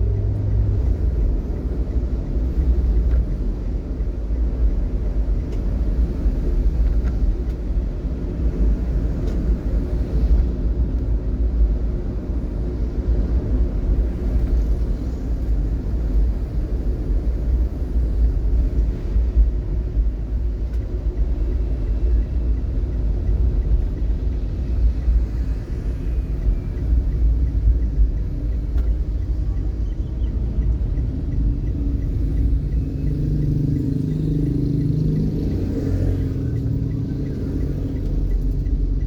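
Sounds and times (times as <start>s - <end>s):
engine hum: 0.0s - 39.0s
vehicle road rumble: 0.0s - 39.0s.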